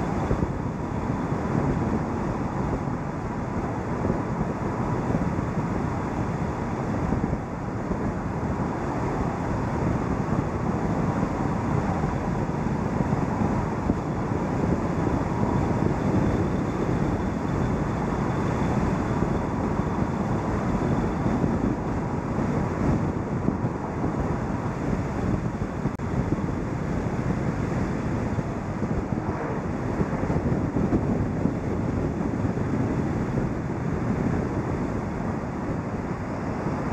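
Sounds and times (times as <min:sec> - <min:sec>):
rushing wind: 0:00.0 - 0:36.9.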